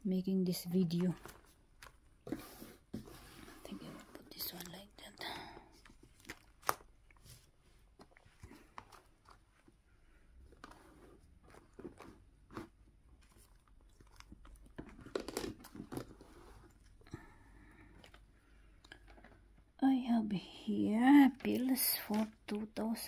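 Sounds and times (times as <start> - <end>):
paper and plastic rustling: 0.8 - 9.8, 10.4 - 19.6, 21.2 - 23.0.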